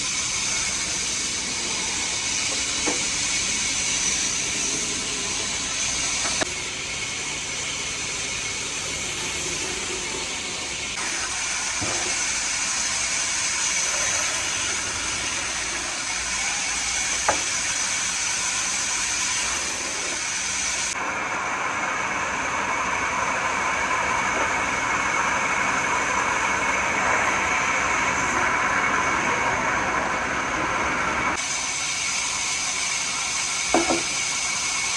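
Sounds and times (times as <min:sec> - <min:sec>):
high machine whine: 0:00.0 - 0:34.1
woodworking machinery hissing: 0:00.0 - 0:34.9.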